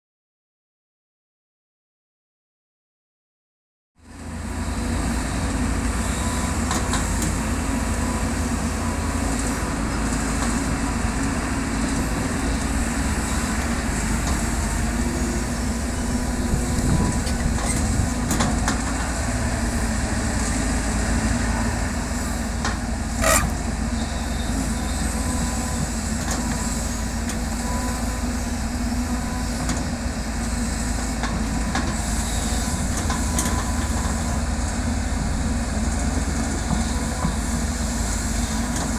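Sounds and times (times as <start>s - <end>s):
diesel engine rumbling under load: 4.0s - 38.9s.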